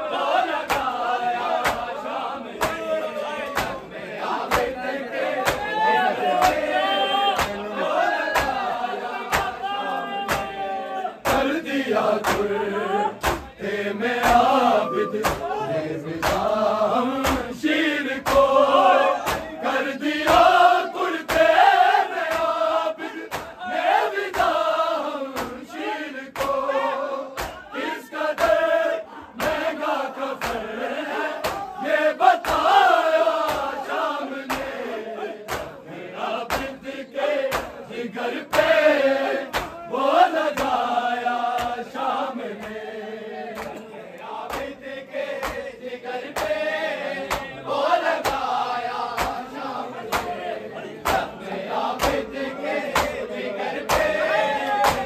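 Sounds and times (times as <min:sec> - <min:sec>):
men chanting in unison: 0:00.0 - 0:55.0
hands slapping on chests: 0:00.5 - 0:13.6, 0:14.2 - 0:15.6, 0:16.2 - 0:25.7, 0:26.3 - 0:26.7, 0:27.3 - 0:28.7, 0:29.4 - 0:35.8, 0:36.4 - 0:42.0, 0:43.5 - 0:55.0.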